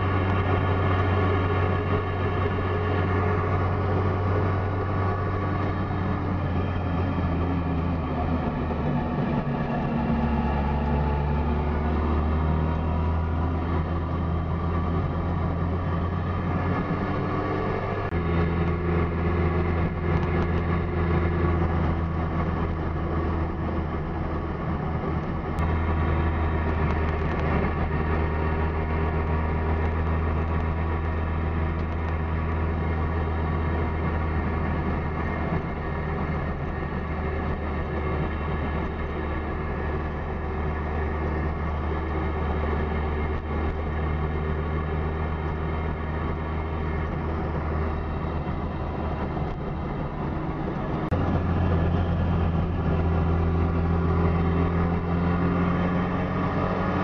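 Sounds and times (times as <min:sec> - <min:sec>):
small car engine droning: 0:00.0 - 0:57.0.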